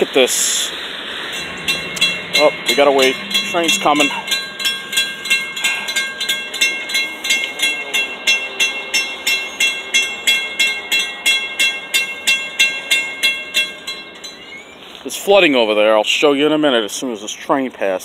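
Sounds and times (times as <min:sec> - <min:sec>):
railroad crossing bell ringing: 0:01.0 - 0:15.9.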